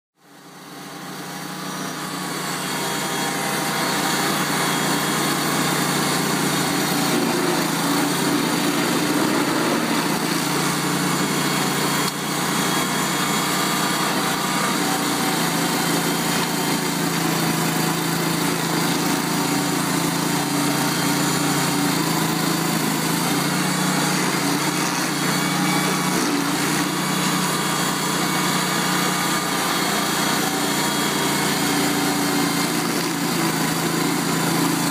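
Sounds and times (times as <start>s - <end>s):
stump grinder grinding soil and roots: 0.2s - 34.9s.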